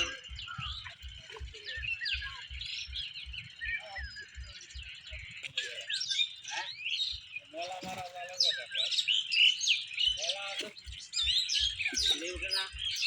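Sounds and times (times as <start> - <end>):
low regular thumping: 0.0 - 7.5, 10.0 - 13.0
small birds chirping: 0.0 - 13.0.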